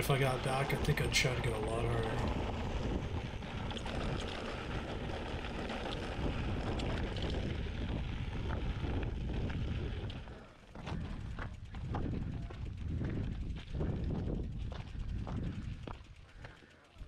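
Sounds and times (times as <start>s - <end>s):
wind rushing over microphone: 0.0s - 16.1s.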